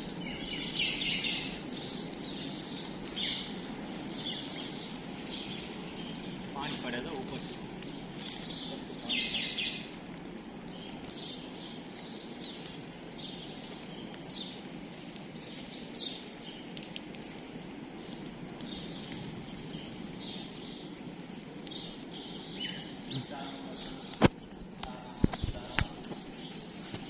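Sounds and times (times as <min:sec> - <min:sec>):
low background noise: 0:00.0 - 0:27.0
small birds chirping: 0:00.0 - 0:27.0.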